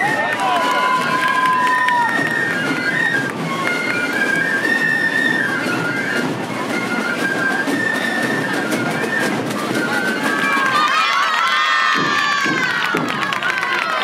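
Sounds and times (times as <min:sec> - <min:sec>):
parade drums beating: 0:00.0 - 0:14.0.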